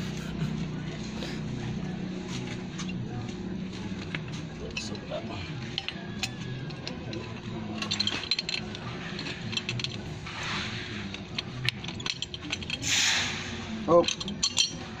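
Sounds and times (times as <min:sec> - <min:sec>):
steady low hum: 0:00.0 - 0:15.0
metallic clicks and scraping: 0:02.3 - 0:15.0.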